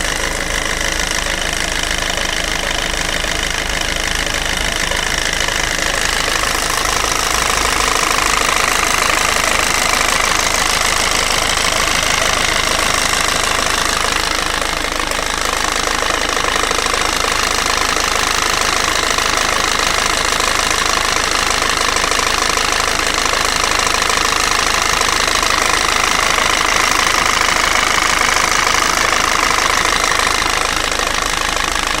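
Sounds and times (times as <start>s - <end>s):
diesel engine clattering: 0.0s - 32.0s.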